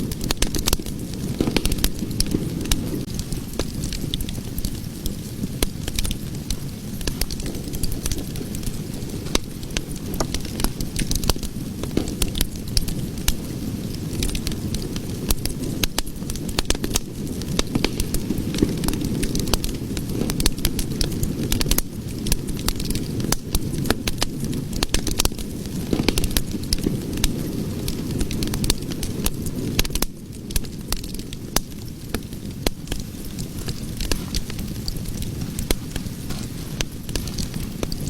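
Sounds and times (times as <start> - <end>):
fire crackling and popping: 0.0 - 38.0
low rumble of burning: 0.0 - 38.0.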